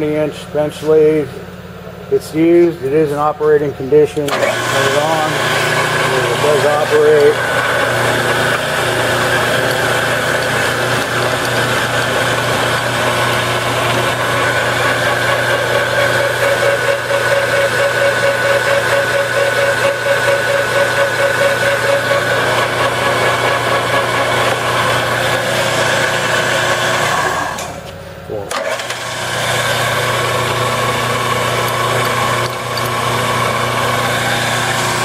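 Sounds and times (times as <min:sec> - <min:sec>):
lathe motor humming and whining: 0:00.0 - 0:35.0.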